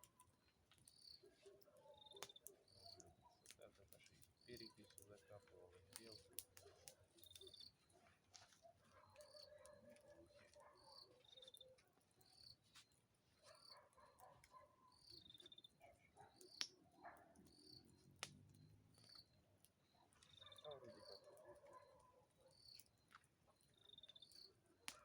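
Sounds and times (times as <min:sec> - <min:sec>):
campfire crackles: 0:00.0 - 0:25.0.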